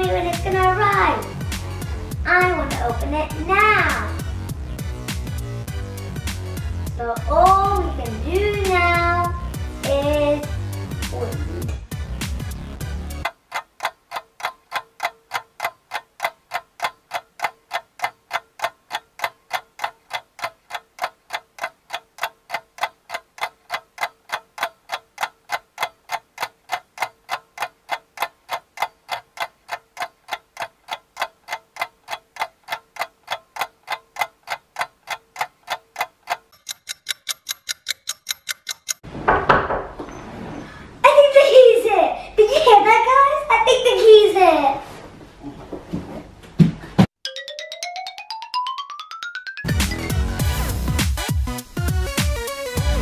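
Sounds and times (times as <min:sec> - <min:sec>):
clock ticking: 0:00.0 - 0:39.0, 0:47.2 - 0:53.0.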